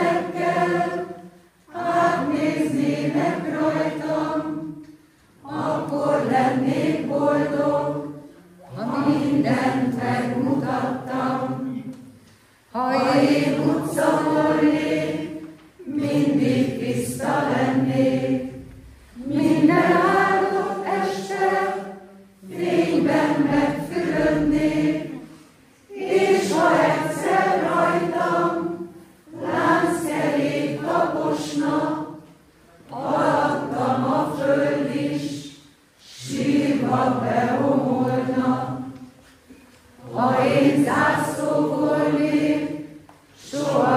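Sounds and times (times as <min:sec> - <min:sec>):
choir singing a cappella: 0:00.0 - 0:43.9.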